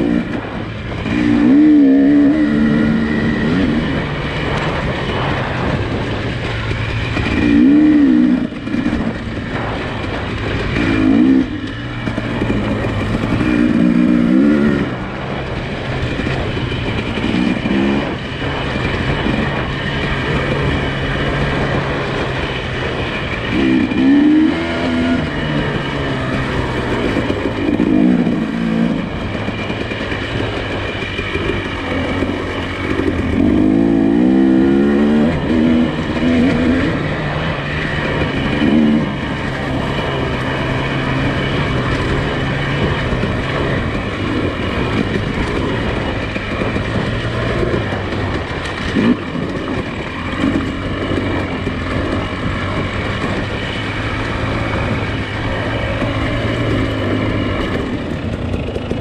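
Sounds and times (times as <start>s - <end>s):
car engine running while driving: 0.0s - 59.0s.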